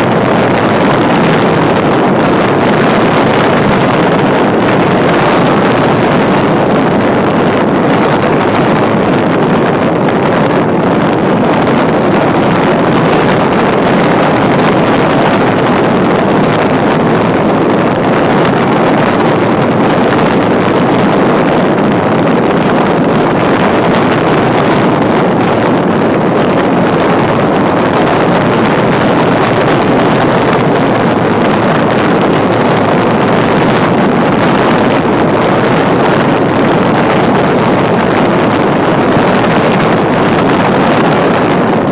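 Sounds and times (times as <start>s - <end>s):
wind rushing across microphone: 0.0s - 41.9s.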